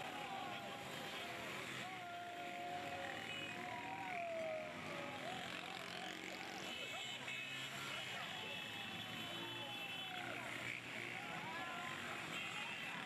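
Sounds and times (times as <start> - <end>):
crowd shouting: 0.0 - 13.0
motorcycle engines passing: 0.0 - 13.0.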